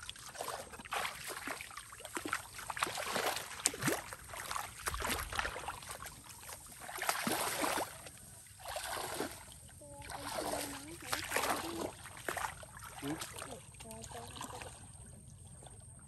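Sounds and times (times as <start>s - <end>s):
feet wading through water: 0.0s - 16.0s.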